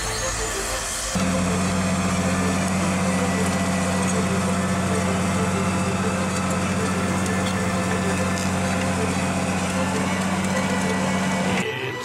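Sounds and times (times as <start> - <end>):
dozer diesel engine under load: 0.0 - 12.0
blade pushing soil and debris: 1.2 - 11.6.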